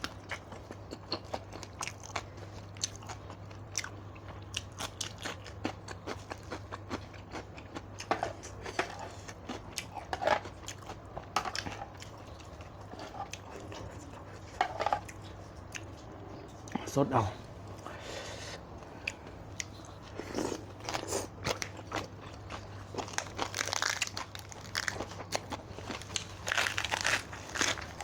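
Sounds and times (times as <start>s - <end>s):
person crunching and chewing: 0.0s - 16.7s, 17.6s - 28.0s.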